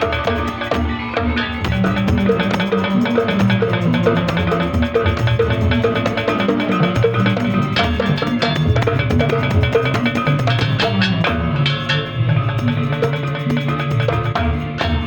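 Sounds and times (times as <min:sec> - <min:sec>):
hand drums beating fast rhythm: 0:00.0 - 0:15.0.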